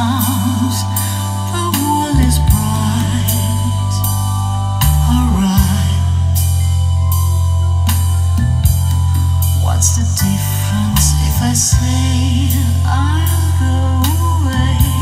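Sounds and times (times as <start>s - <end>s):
person singing: 0.0s - 6.8s, 9.6s - 15.0s
deep bass notes: 0.0s - 15.0s.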